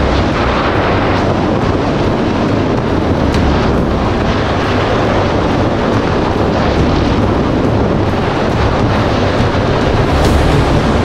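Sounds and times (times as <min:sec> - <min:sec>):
jet ski engine humming: 0:00.0 - 0:11.0
rushing wind and water: 0:00.0 - 0:11.0.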